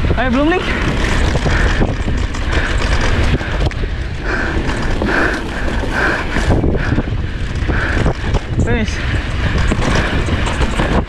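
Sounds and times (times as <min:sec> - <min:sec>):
mountain bike rattling and knocking: 0:00.0 - 0:11.0
wind rumble on microphone: 0:00.0 - 0:11.0.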